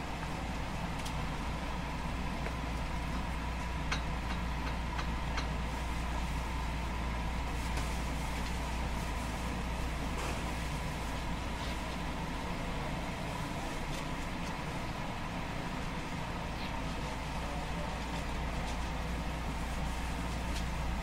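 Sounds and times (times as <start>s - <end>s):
train equipment low hum: 0.0s - 21.0s.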